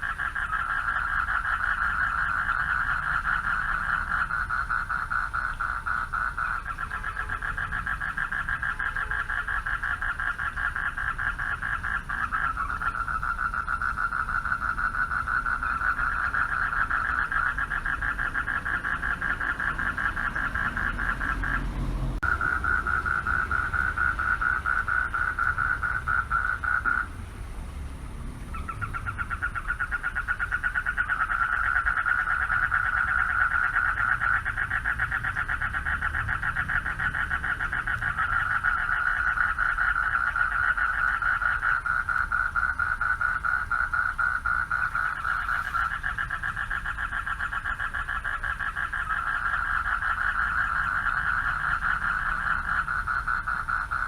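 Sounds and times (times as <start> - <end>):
frogs trilling: 0.0 - 27.3, 28.4 - 54.0.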